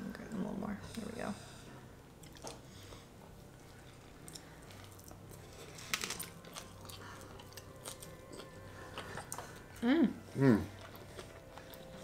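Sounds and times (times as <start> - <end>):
faint chewing: 2.1 - 12.0.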